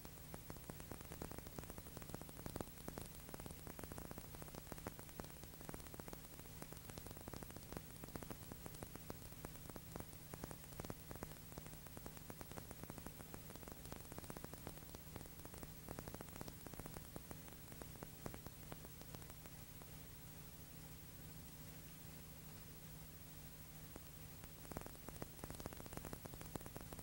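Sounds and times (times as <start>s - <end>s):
crackling clicks: 0.0s - 27.0s
tape hiss and hum: 0.0s - 27.0s.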